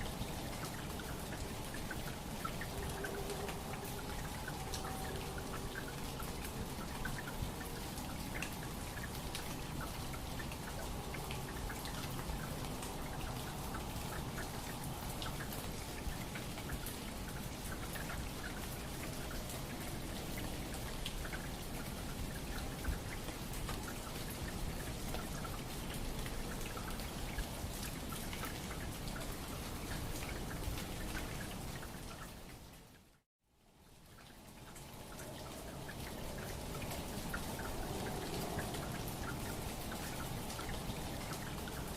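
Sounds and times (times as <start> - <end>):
small drips and ticks: 0.0 - 41.9.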